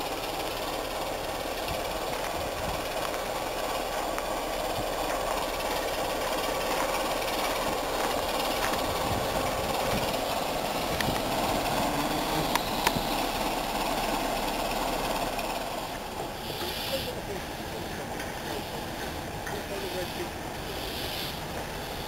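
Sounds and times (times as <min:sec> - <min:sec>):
railway locomotive running: 0:00.0 - 0:22.0.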